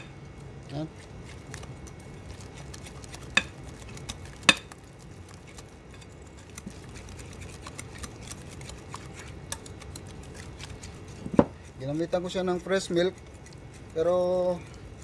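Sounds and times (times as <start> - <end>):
batter stirring wet mixing: 0.0 - 15.0.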